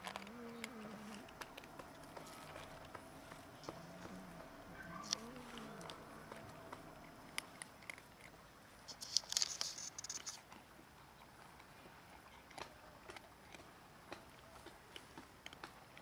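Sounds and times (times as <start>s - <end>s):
cats crunching dry kibble: 0.0s - 16.0s.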